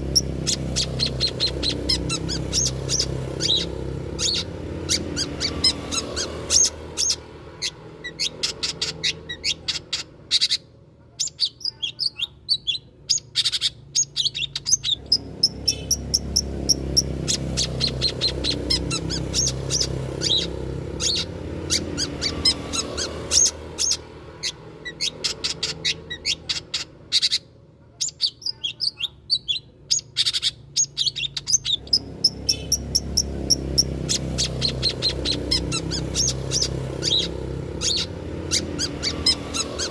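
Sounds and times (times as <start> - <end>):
shrike singing sharp chirps: 0.0 - 10.6, 11.2 - 39.9.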